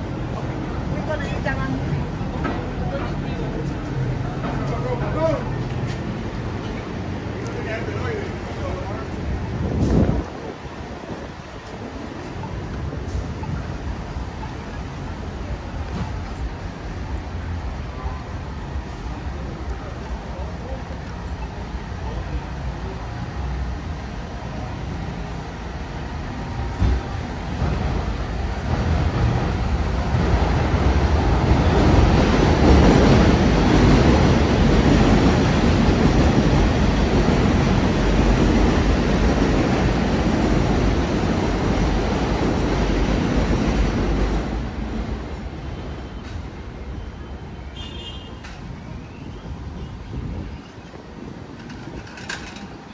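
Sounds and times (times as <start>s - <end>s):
elevated subway train rumbling: 0.0s - 52.9s.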